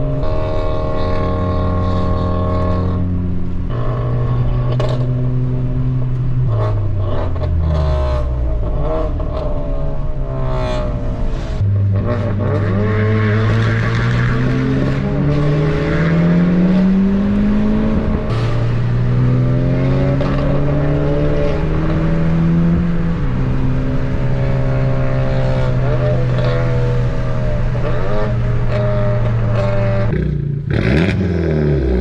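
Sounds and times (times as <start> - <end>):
car engine accelerating hard: 0.0 - 32.0.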